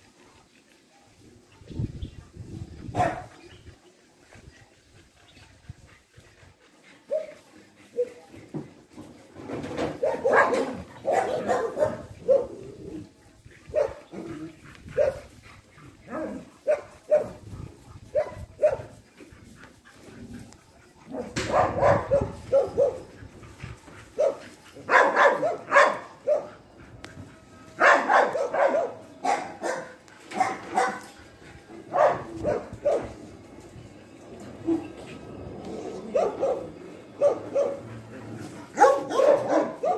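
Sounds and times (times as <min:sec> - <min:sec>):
dogs barking and yipping: 0:02.2 - 0:39.9.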